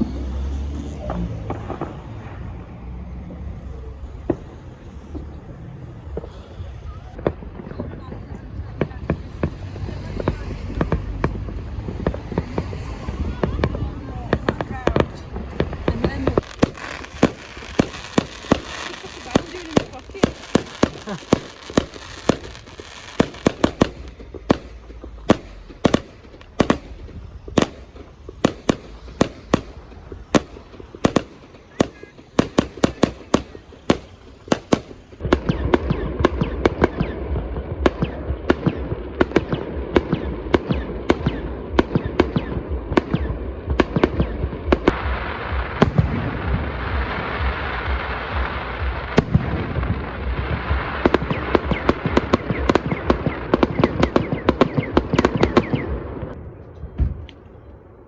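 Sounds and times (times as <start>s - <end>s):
background noise: 0.0s - 58.0s
fireworks bangs and crackling: 0.0s - 58.0s.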